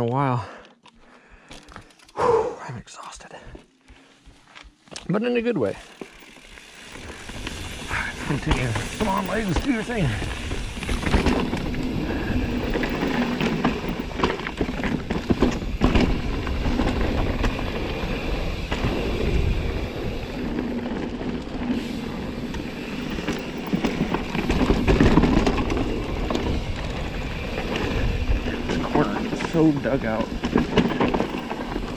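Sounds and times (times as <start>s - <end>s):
bike tyres rolling over dirt: 4.1s - 31.9s
bike chain and frame rattling: 5.6s - 31.9s.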